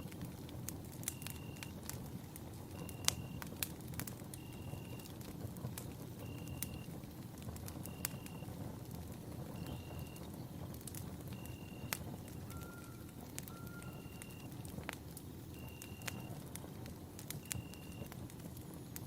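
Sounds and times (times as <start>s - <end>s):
low rumble of flames: 0.0s - 19.0s
wood crackling and popping: 0.0s - 19.0s.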